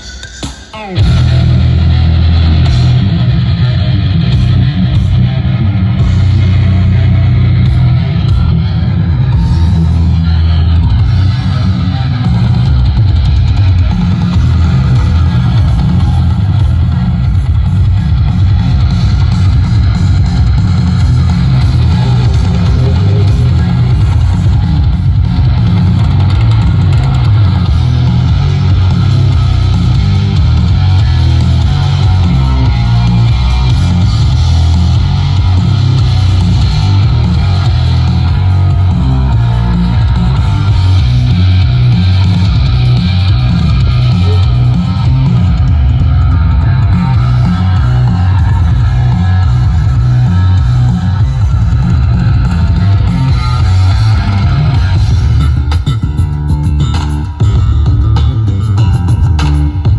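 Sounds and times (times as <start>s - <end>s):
loud rock music: 0.0s - 59.9s.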